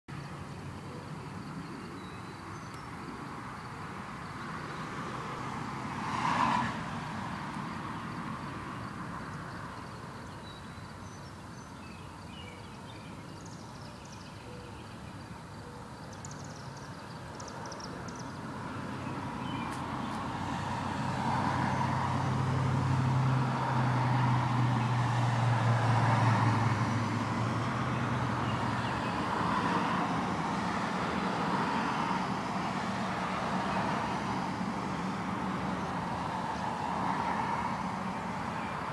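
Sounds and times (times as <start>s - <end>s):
vehicle engine hum passing: 0.1s - 38.9s.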